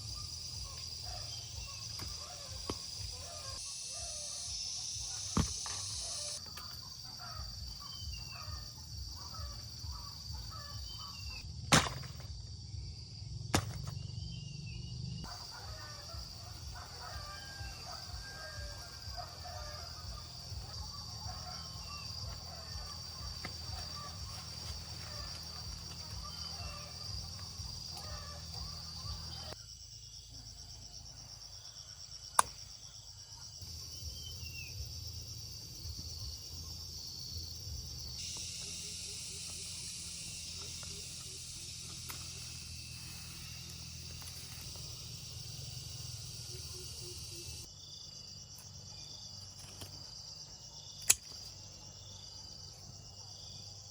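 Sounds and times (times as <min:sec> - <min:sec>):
insect drone: 0:00.0 - 0:53.9.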